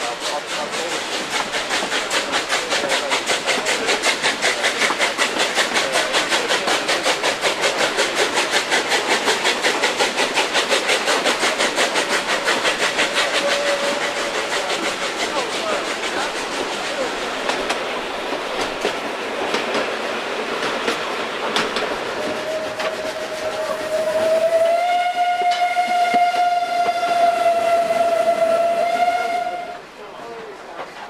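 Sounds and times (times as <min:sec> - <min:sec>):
steam locomotive exhaust chuffing: 0:00.0 - 0:31.0.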